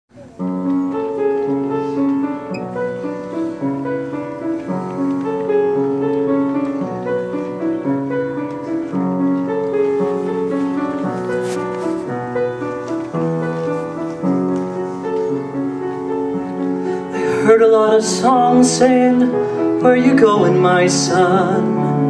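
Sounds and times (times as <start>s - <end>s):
slow solo piano chords: 0.2s - 22.0s.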